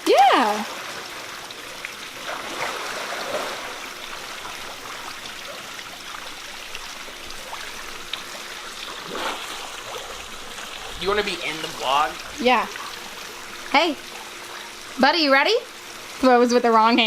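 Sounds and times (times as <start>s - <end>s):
running trickling water: 0.0s - 17.0s.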